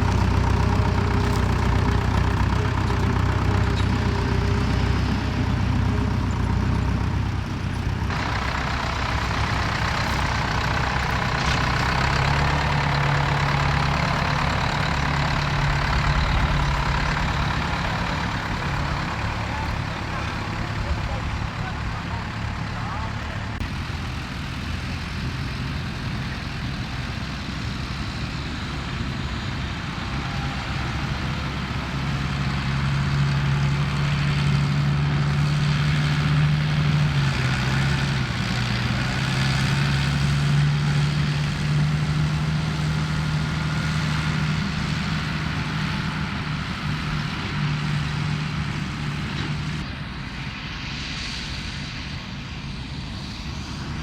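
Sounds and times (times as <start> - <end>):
tractor diesel engine passing: 0.0 - 54.0.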